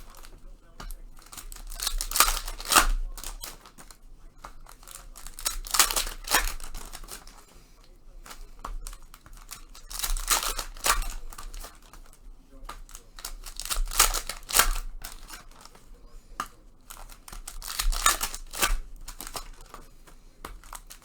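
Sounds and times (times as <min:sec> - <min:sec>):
foil wrappers crinkling and tearing: 0:00.0 - 0:21.0.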